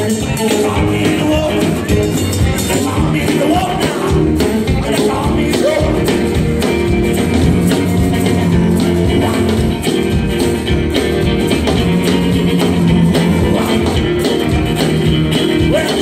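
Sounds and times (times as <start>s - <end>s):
drums: 0.0s - 16.0s
guitars: 0.0s - 16.0s
upright bass: 0.0s - 16.0s.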